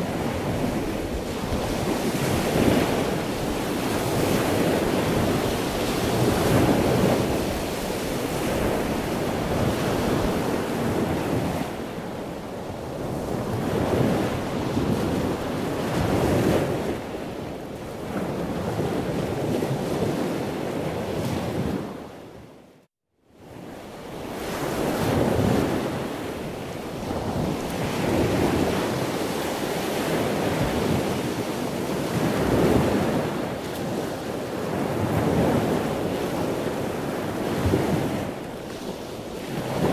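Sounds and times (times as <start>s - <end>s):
ocean surf breaking on beach: 0.0s - 22.2s, 23.4s - 39.9s.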